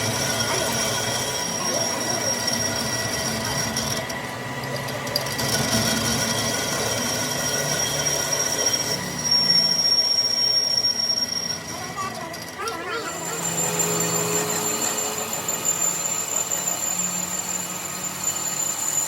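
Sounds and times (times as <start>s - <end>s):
machinery high-pitched whine: 0.0s - 19.0s.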